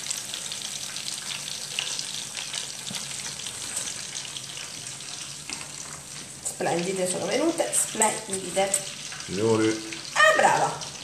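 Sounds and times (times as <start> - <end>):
hot oil sizzling and popping: 0.0 - 11.0.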